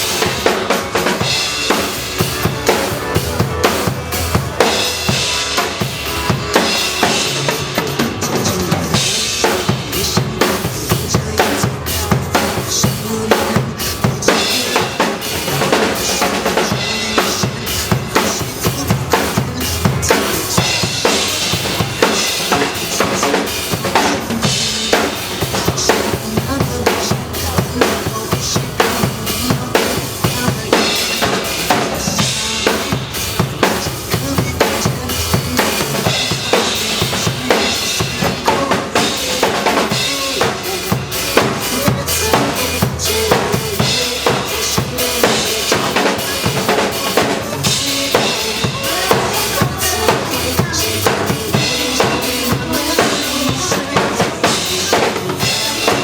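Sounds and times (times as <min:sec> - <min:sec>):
drum kit beat: 0:00.0 - 0:56.0
pop backing music: 0:00.0 - 0:56.0.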